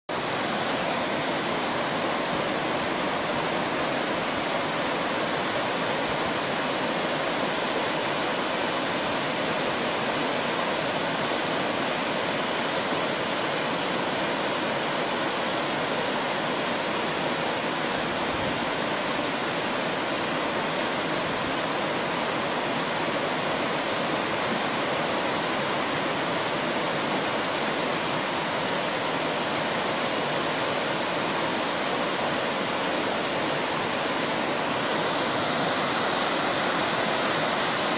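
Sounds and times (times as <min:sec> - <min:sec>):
waterfall rushing over rock: 0:00.1 - 0:37.9.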